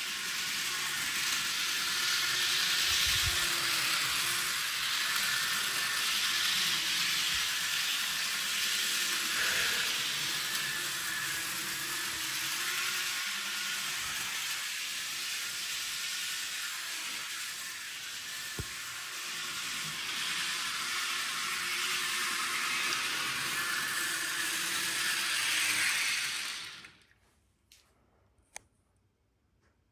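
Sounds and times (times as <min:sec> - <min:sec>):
model train hissing whir: 0:00.0 - 0:27.0.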